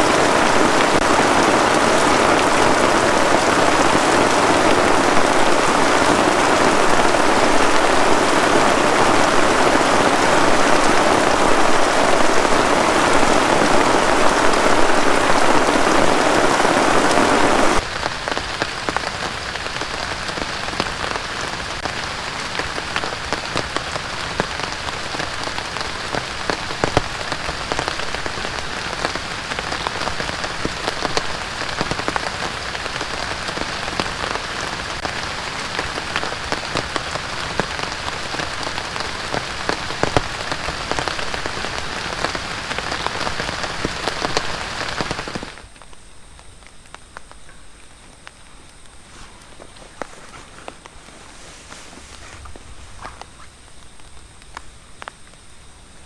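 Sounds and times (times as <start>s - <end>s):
heavy rain falling: 0.0s - 45.9s, 46.6s - 55.4s.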